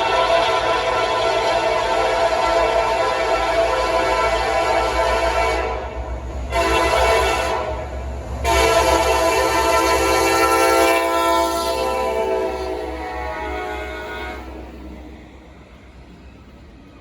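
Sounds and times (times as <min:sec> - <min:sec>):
locomotive air horn blasts: 0:00.0 - 0:15.1
low train rumble: 0:00.0 - 0:17.0.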